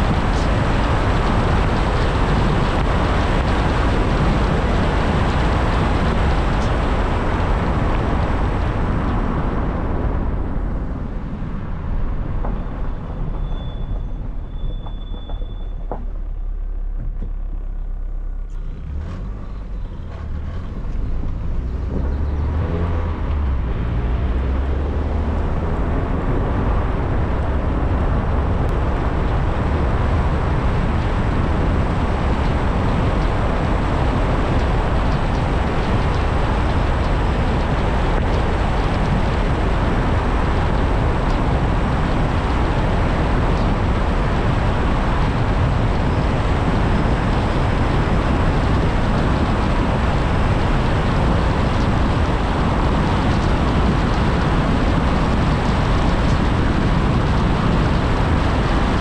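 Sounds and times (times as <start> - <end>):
tyre and wind hiss: 0.0 - 15.1, 20.1 - 59.0
car engine rumble: 0.0 - 59.0.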